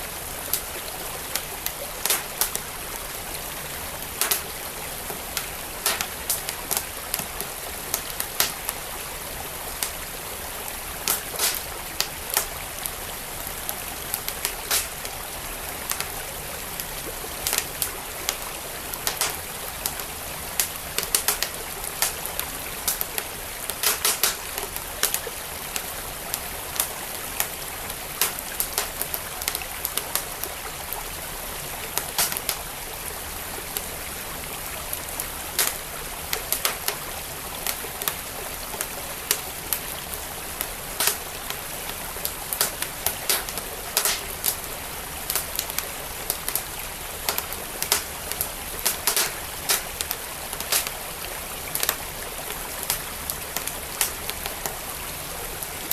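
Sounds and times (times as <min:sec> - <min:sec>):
wood fire crackling and popping: 0:00.0 - 0:54.8
stream flowing: 0:00.0 - 0:55.9.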